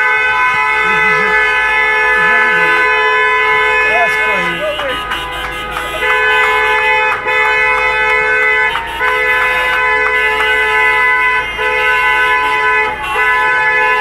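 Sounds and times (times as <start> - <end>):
car horn honking: 0.0 - 14.0.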